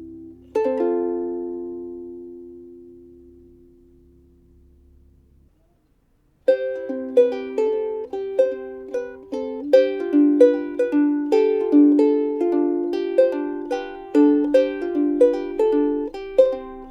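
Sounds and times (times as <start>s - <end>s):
ukulele plucked melody: 0.0s - 4.7s, 6.4s - 16.9s.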